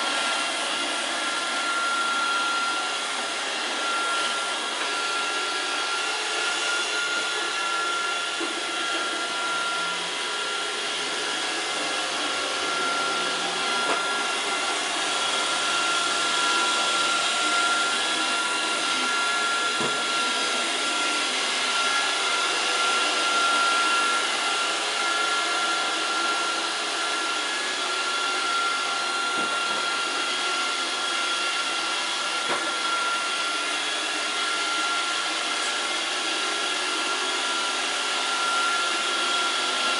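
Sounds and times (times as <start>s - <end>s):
robot vacuum running: 0.0s - 39.9s.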